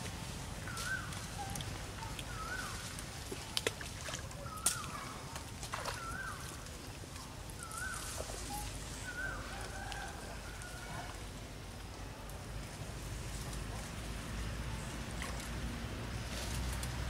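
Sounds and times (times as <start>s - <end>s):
monkeys splashing in water: 0.0s - 16.2s
low steady rumble: 0.0s - 17.0s.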